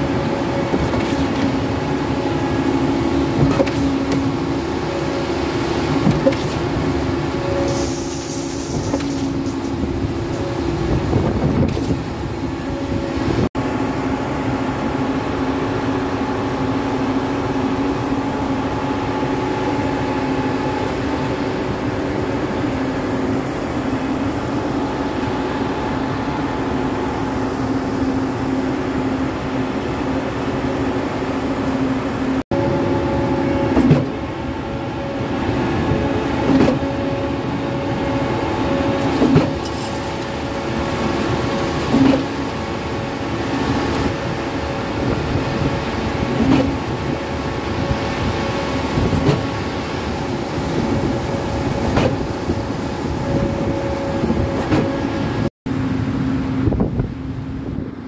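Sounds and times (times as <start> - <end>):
concrete pump running: 0.0 - 58.0.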